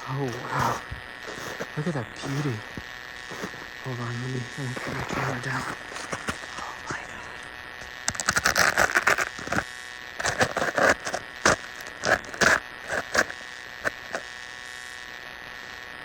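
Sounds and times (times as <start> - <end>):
high-pitched whine: 0.0 - 16.0
rustling and crackling handling noise: 0.3 - 14.3.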